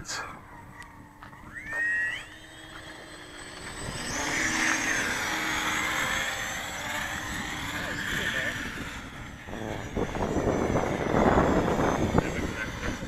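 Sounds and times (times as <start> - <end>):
model plane motor whining: 0.2 - 13.0.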